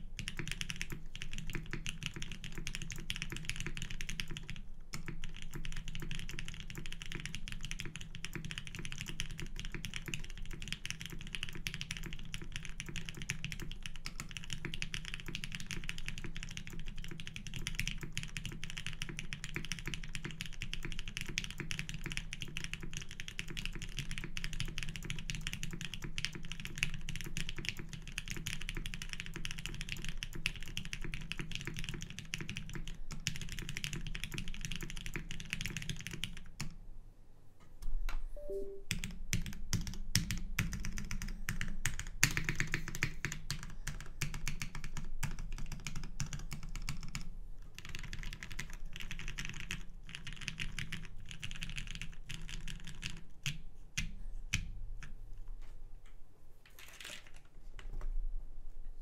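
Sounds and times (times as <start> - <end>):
mechanical keyboard typing: 0.2 - 36.7, 38.6 - 53.6.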